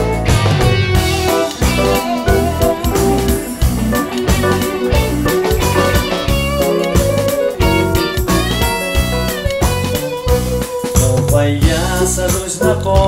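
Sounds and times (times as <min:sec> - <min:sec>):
electronic keyboard music: 0:00.0 - 0:11.1.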